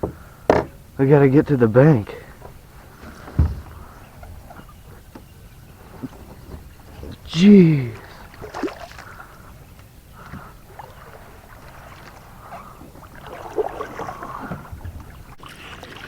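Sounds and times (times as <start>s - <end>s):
water lapping around kayak: 0.0s - 16.0s
splashes and knocks: 2.3s - 16.0s.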